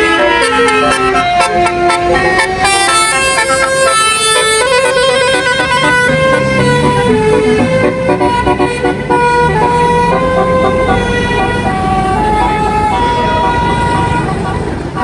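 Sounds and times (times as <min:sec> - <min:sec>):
bus engine running: 0:00.0 - 0:15.0
musical air horn playing tune: 0:00.0 - 0:15.0.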